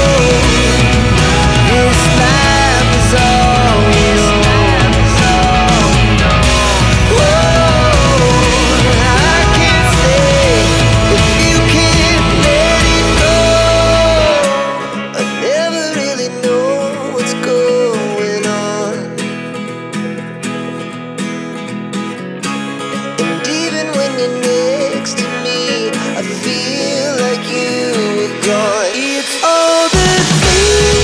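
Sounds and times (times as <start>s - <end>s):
person singing: 0.0s - 19.2s, 23.2s - 31.0s
pop song with acoustic guitar: 0.0s - 31.0s.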